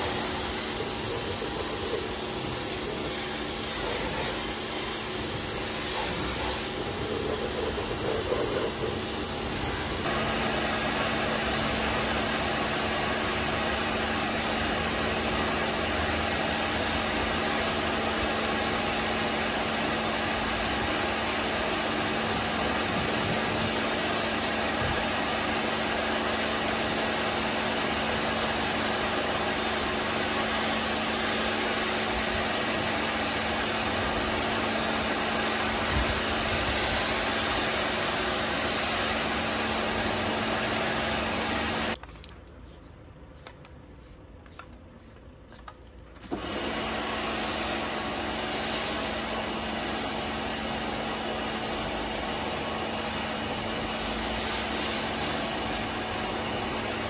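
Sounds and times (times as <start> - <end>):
water jet hissing: 0.0 - 42.0, 46.2 - 57.0
pressure washer pump humming: 0.0 - 42.4, 46.1 - 57.0.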